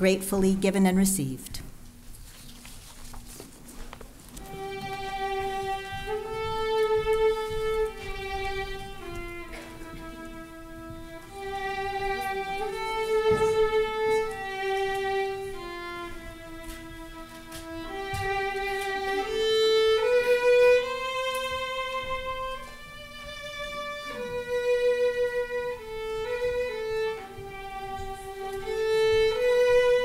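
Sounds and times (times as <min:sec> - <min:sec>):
violin playing slow melody: 0:04.4 - 0:30.0.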